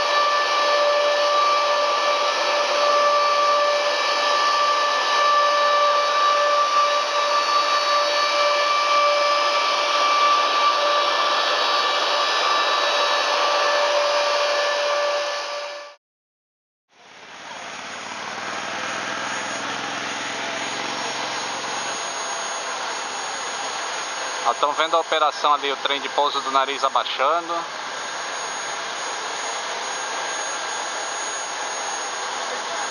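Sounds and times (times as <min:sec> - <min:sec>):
jet engine running: 0:00.0 - 0:16.0, 0:17.0 - 0:32.9.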